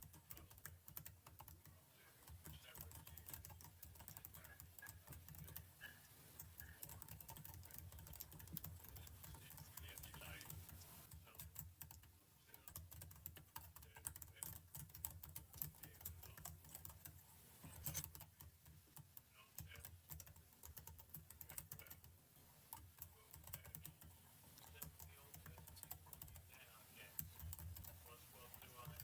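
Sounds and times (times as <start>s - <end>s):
computer keyboard keys clicking: 0.0s - 1.7s, 2.3s - 5.6s, 6.4s - 22.1s, 22.7s - 26.6s, 27.2s - 29.0s.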